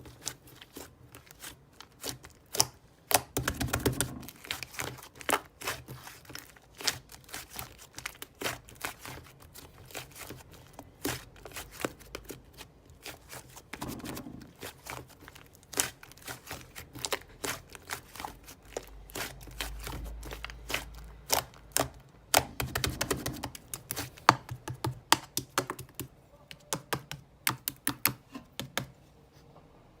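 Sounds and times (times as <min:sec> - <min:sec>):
hands squishing slime: 0:00.0 - 0:28.9.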